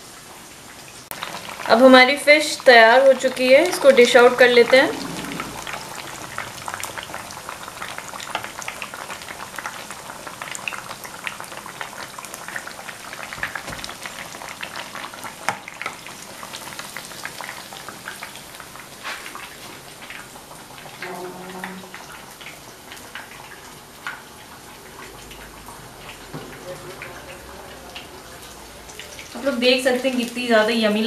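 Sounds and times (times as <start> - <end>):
fish deep-frying sizzle: 0.0 - 31.0.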